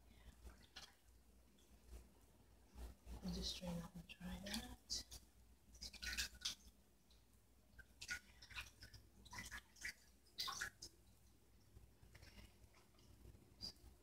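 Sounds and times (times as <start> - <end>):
wet greens rustling and crackling: 0.1 - 14.0.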